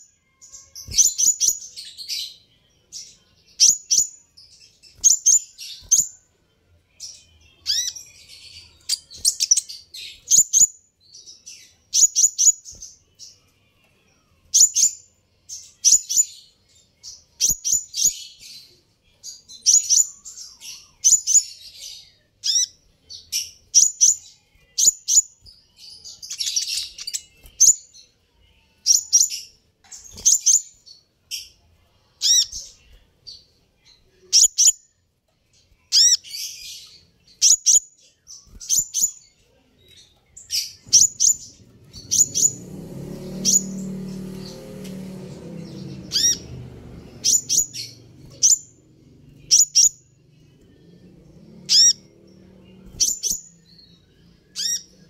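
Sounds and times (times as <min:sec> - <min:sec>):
bird high sharp chirps: 0:00.0 - 0:02.4, 0:03.0 - 0:06.3, 0:07.0 - 0:13.4, 0:14.4 - 0:28.1, 0:28.8 - 0:31.5, 0:32.1 - 0:33.4, 0:34.3 - 0:34.8, 0:35.8 - 0:39.3, 0:40.4 - 0:50.1, 0:51.4 - 0:55.0.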